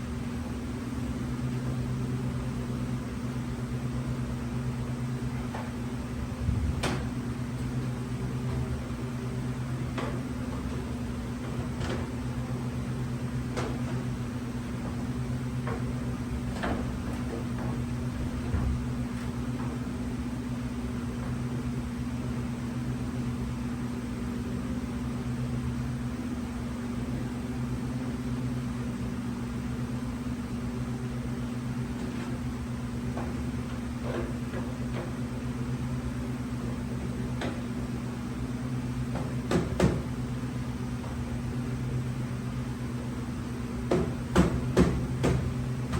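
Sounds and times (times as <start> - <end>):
low machine hum: 0.0 - 45.9.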